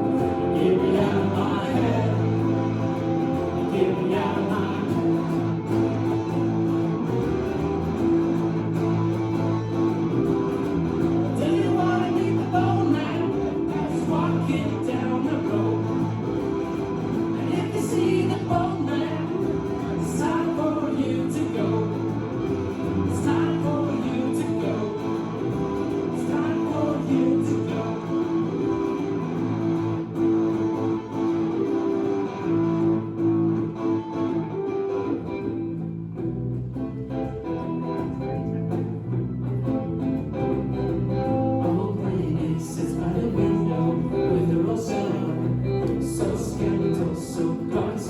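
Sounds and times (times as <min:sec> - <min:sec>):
live band with guitar: 0:00.0 - 0:48.0.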